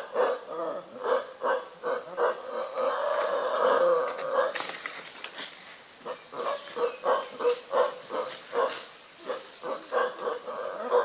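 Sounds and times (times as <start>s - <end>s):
howler monkeys grunting: 0.0s - 4.6s, 6.0s - 11.0s.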